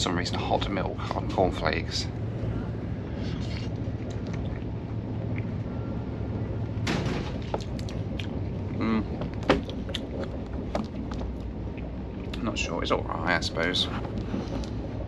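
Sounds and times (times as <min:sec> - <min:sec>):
train rumbling inside compartment: 0:00.0 - 0:15.0.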